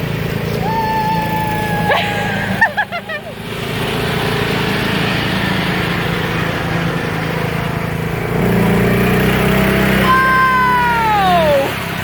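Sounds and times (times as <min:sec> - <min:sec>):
lawnmower engine running: 0:00.0 - 0:12.0.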